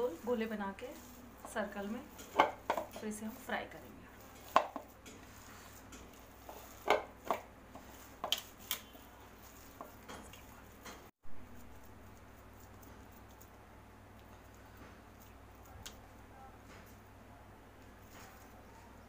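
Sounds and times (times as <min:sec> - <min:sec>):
hand kneading mixture in bowl: 0:00.0 - 0:19.0.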